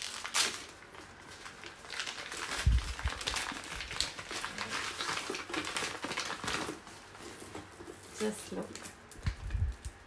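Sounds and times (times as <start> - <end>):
tissue paper crinkling: 0.0 - 8.9.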